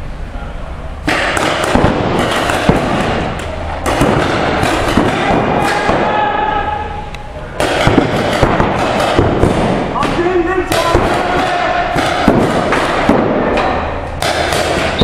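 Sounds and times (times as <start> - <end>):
paintball markers firing: 1.1 - 6.1, 7.6 - 15.0.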